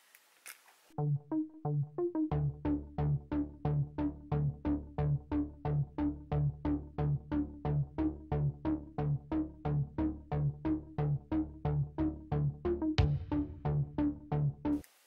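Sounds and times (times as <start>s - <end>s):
electronic music with synth beat: 1.0s - 14.8s.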